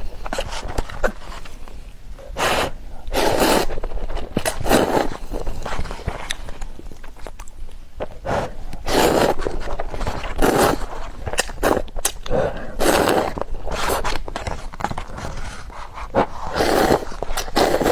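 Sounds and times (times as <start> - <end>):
noodles being slurped: 2.4 - 7.5, 8.3 - 17.9
wet chewing clicks: 3.4 - 17.9.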